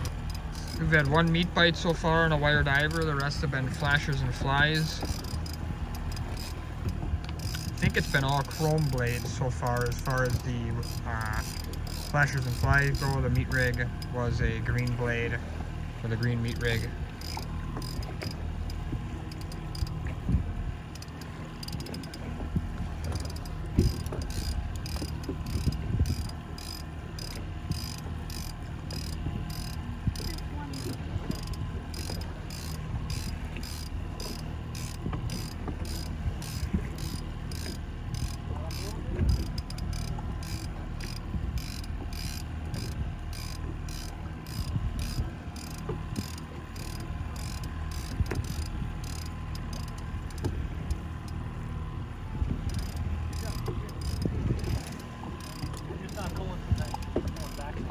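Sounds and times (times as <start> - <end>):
fishing reel clicking: 0.0 - 15.0, 16.4 - 20.0, 20.9 - 22.3, 23.0 - 51.4, 52.6 - 57.8
boat motor hum: 0.0 - 57.9.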